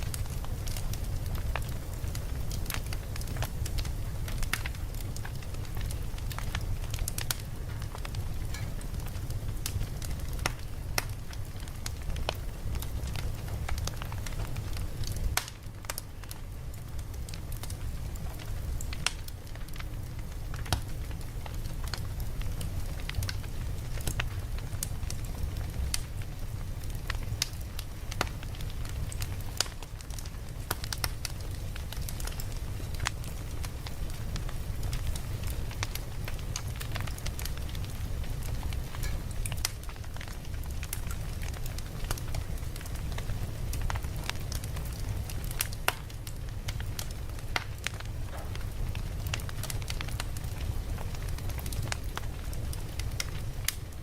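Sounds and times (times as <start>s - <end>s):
burning wood popping and snapping: 0.0s - 54.0s
low rumble of flames: 0.0s - 54.0s.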